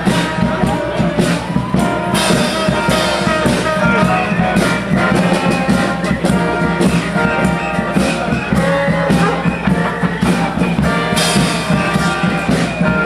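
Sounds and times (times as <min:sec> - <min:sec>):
live brass band playing: 0:00.0 - 0:13.0
trombone: 0:00.0 - 0:13.0.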